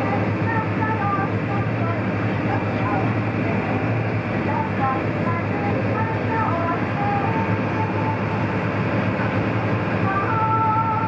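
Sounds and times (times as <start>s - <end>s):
boat engine running: 0.0s - 11.0s
water rushing along hull: 0.0s - 11.0s.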